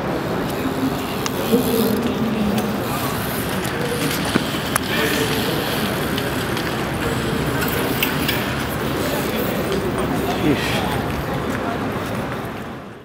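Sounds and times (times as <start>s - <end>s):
indistinct voices: 0.0s - 12.6s
traffic noise: 0.0s - 13.0s.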